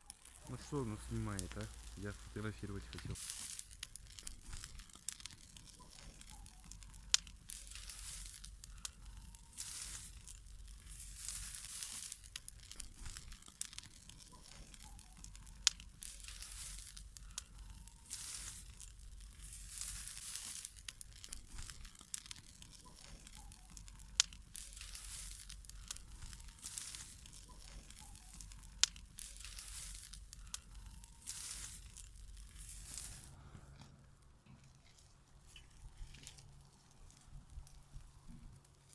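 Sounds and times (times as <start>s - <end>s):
fire hissing rushes: 0.0s - 33.7s
burning grass crackling: 0.0s - 38.9s
fire popping: 0.0s - 38.9s.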